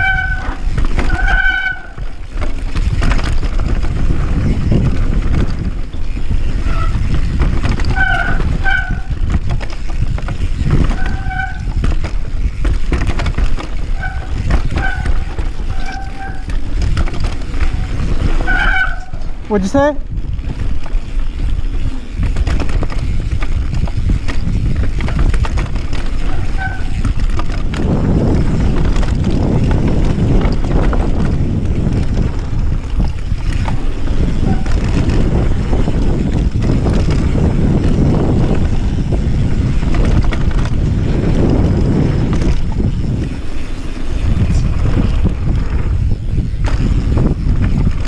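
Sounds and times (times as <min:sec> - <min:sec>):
bike knocking and rattling: 0:00.0 - 0:48.0
tyres on dirt: 0:00.0 - 0:48.0
wind on microphone: 0:00.0 - 0:48.0.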